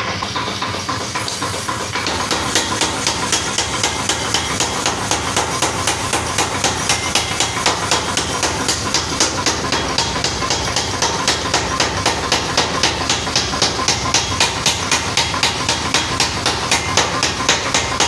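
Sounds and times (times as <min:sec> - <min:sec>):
power hammer striking metal: 0:00.0 - 0:18.0.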